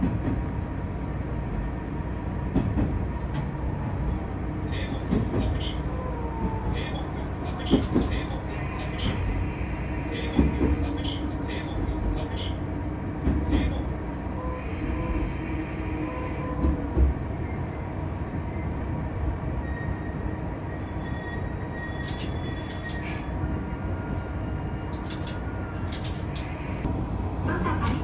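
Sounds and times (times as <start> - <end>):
railcar engine and wheels rumbling: 0.0 - 28.0.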